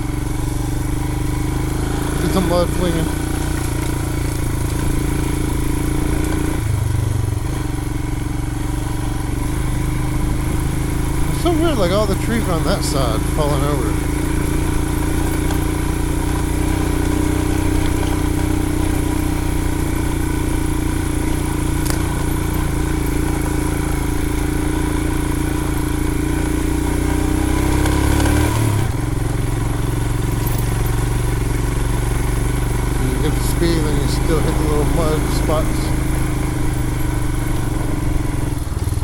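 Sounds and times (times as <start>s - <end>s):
motorcycle engine at low revs: 0.0s - 39.0s.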